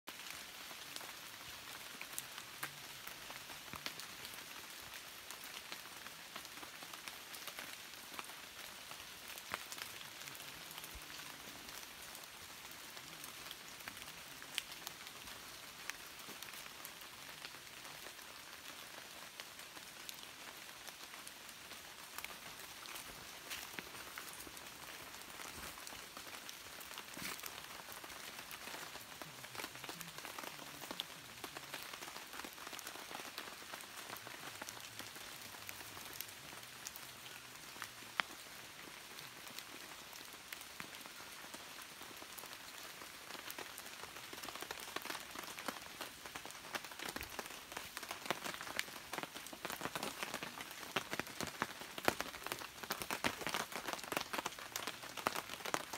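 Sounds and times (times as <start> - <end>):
rain on foliage: 0.1 - 55.9.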